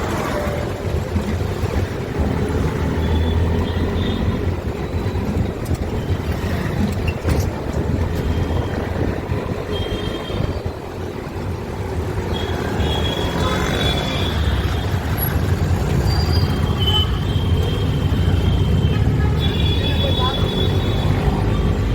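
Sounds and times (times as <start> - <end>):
traffic rumble: 0.0 - 21.9.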